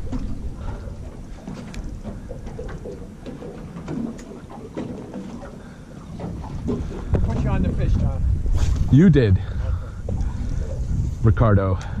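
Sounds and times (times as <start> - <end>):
low rumble of wind: 0.0 - 12.0
water around boat: 0.0 - 12.0.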